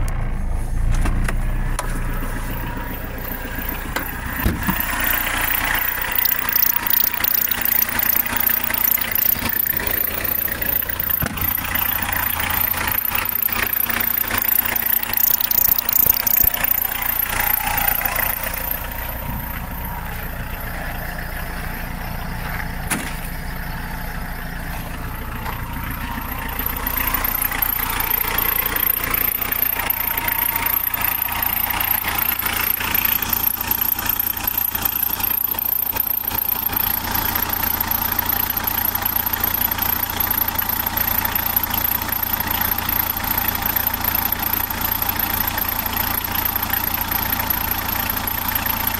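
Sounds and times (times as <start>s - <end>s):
diesel car engine idling: 0.0s - 48.9s.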